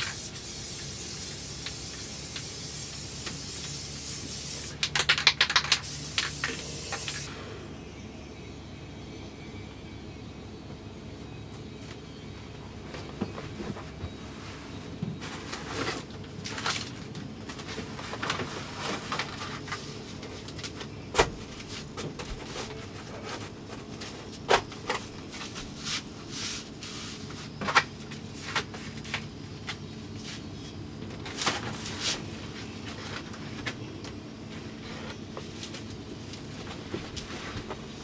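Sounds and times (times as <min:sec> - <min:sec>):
low steady background hum: 0:00.0 - 0:38.0.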